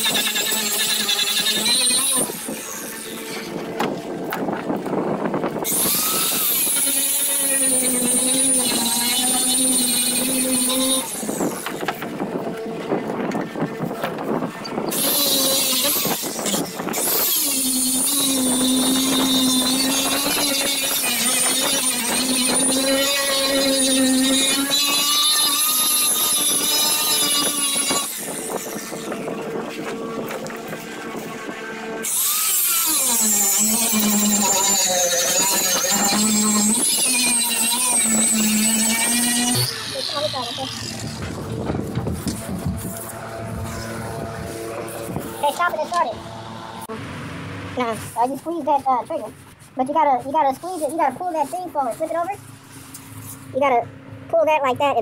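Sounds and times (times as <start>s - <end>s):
power grinder whining: 0.0s - 47.7s.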